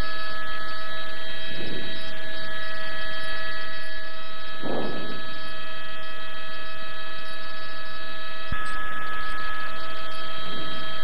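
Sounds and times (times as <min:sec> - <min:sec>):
loud steady held tones: 0:00.0 - 0:11.0.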